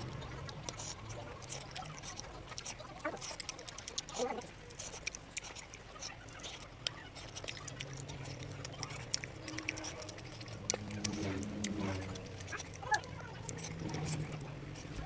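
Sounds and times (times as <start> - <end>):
small clicks while chewing: 0.0 - 15.0
wet chewing and lip-smacking: 0.0 - 15.0.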